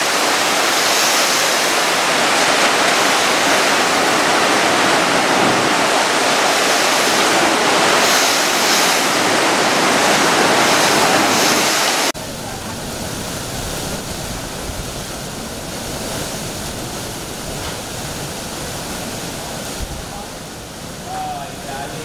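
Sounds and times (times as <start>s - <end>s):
hurricane wind: 0.0s - 22.0s
wind-driven rain: 0.0s - 22.0s.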